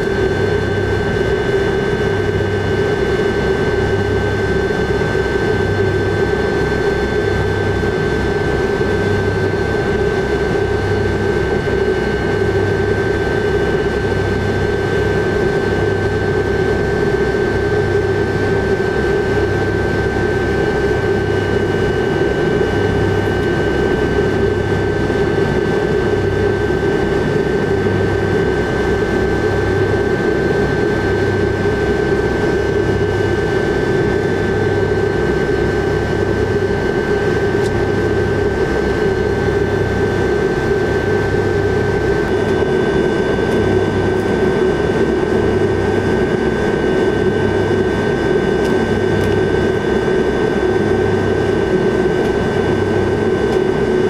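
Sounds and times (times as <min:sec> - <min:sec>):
jet engines rumbling with whine: 0:00.0 - 0:54.0.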